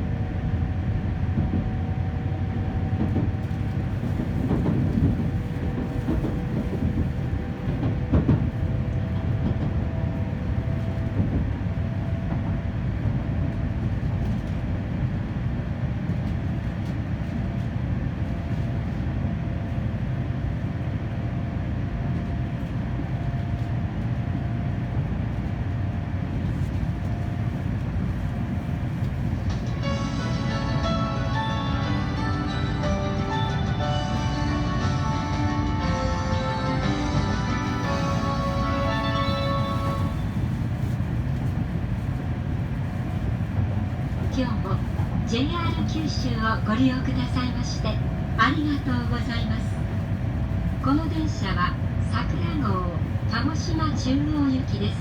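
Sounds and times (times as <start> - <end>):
faint train whine: 0.0 - 55.0
train wheels rumbling on track: 0.0 - 55.0.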